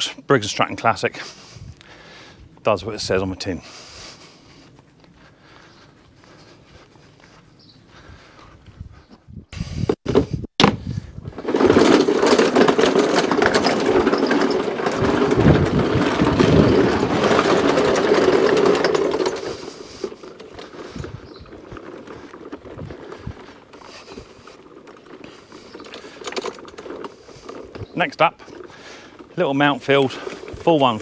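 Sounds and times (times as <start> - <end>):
lawn mower wheels rattling: 0.0 - 8.5, 9.6 - 31.0.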